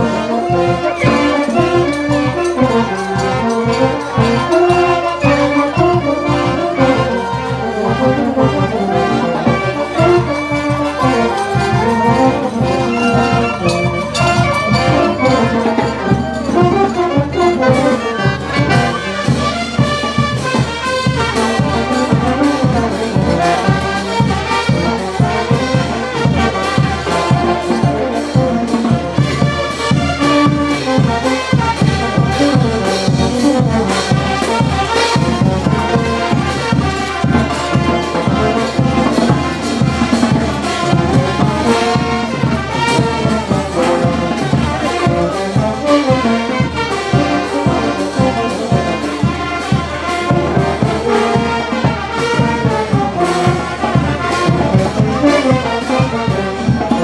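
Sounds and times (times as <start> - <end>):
brass band playing dance music: 0.0 - 57.0
steady drum beat: 0.0 - 57.0.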